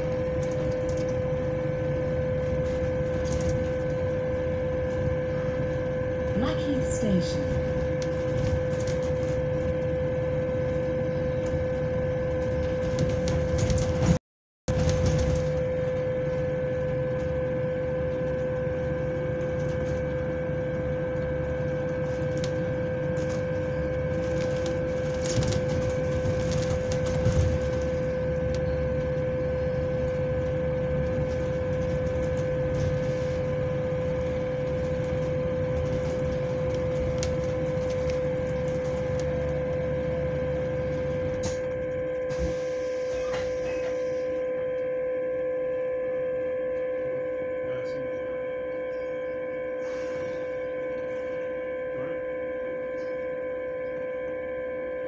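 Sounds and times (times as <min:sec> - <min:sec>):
bus engine rumble: 0:00.0 - 0:44.4, 0:48.9 - 0:51.5
fan whine: 0:00.0 - 0:55.0.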